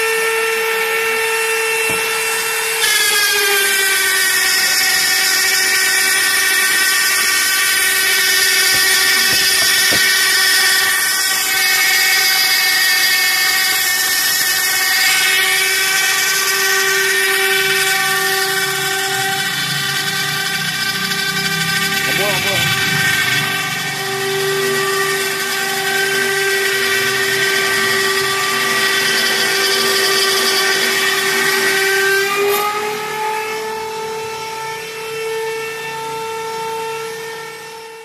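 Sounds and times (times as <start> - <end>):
power tool cutting metal: 0.0 - 38.0.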